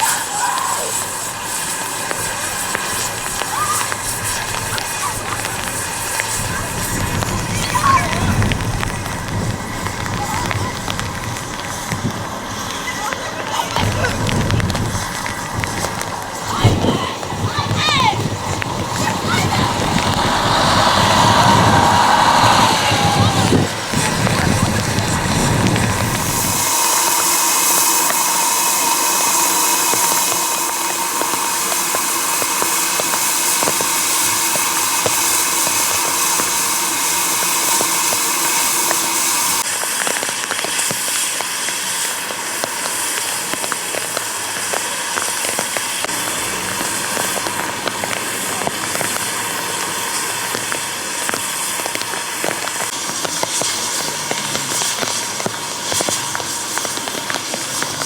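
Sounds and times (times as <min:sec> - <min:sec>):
steam hissing from locomotive: 0:00.0 - 0:58.0.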